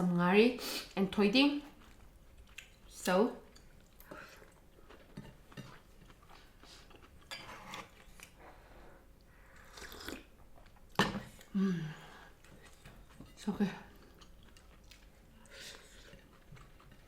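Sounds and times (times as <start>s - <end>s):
person chewing food: 1.7s - 2.9s, 3.5s - 17.0s.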